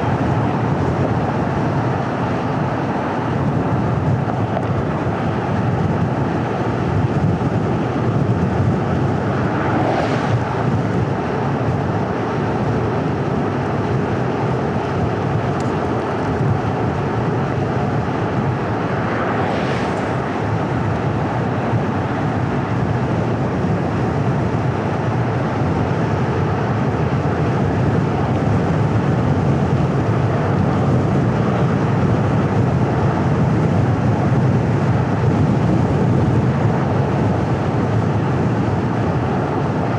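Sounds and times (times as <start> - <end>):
car tyre and engine noise: 0.0 - 39.9.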